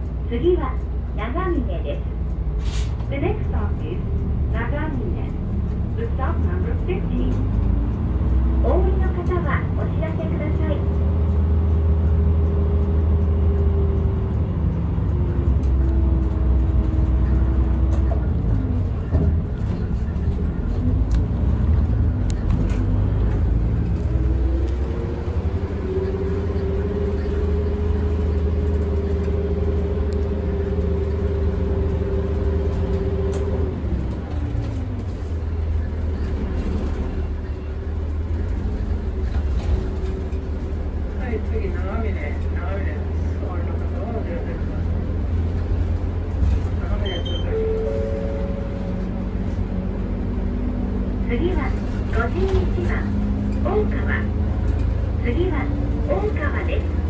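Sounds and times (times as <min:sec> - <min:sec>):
bus engine rumbling: 0:00.0 - 0:57.0.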